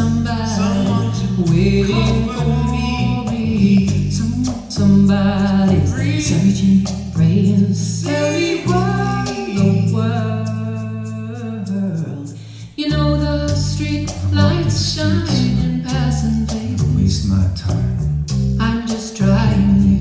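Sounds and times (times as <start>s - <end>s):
pop song over speakers: 0.0s - 17.0s, 18.6s - 20.0s.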